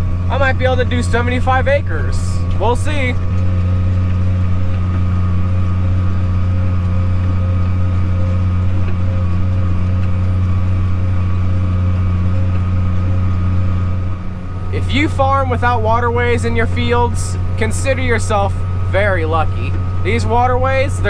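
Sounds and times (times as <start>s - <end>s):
tractor engine droning: 0.0s - 21.0s.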